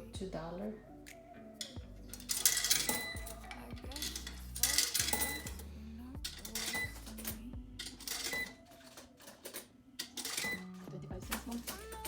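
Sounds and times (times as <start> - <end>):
background music: 0.0 - 12.0
coins clinking into machine: 1.6 - 12.0.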